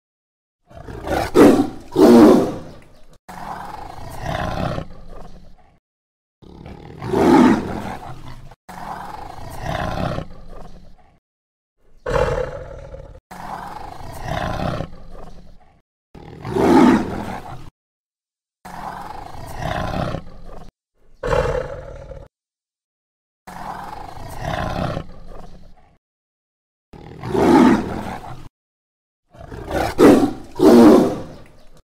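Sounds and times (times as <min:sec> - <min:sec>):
tiger roaring and growling: 0:00.7 - 0:05.8, 0:06.4 - 0:11.2, 0:11.9 - 0:17.7, 0:18.6 - 0:22.3, 0:23.5 - 0:26.0, 0:27.0 - 0:28.5, 0:29.3 - 0:31.8.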